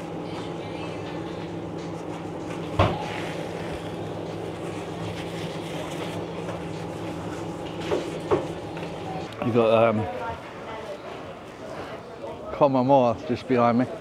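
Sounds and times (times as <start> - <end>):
machinery hum and rumble: 0.0 - 11.7.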